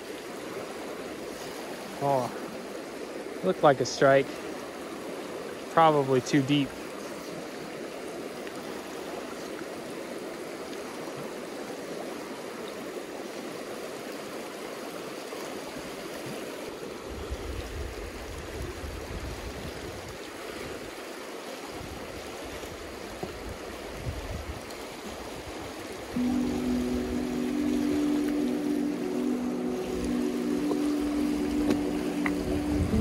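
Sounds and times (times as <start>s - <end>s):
creek rushing over rocks: 0.0s - 33.0s.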